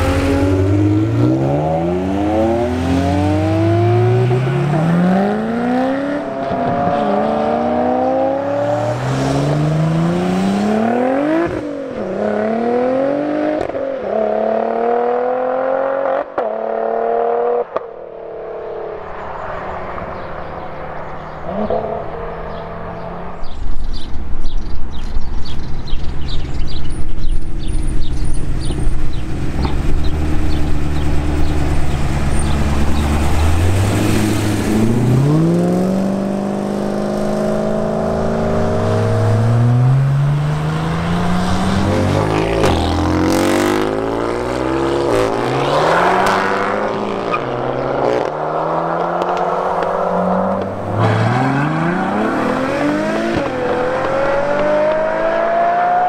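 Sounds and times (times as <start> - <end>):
car accelerating through upshifts: 0.0 - 23.6, 29.4 - 56.0
car engines revving: 0.0 - 56.0.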